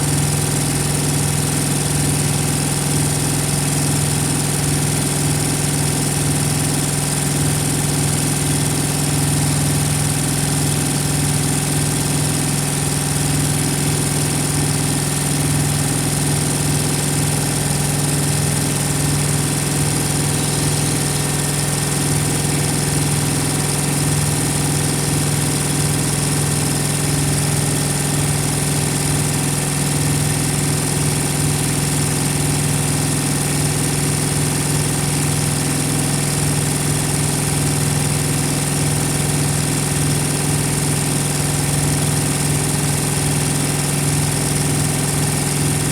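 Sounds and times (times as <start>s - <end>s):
small diesel engine humming: 0.0s - 45.9s.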